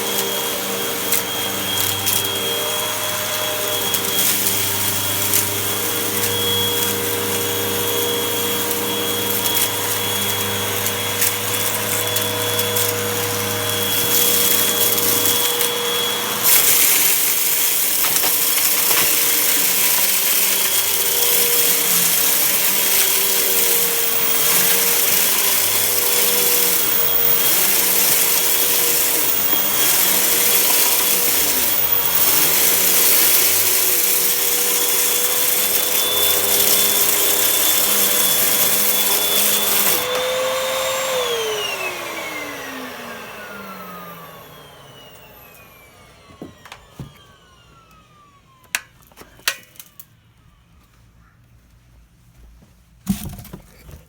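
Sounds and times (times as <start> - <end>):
vacuum cleaner running: 0.0 - 50.7.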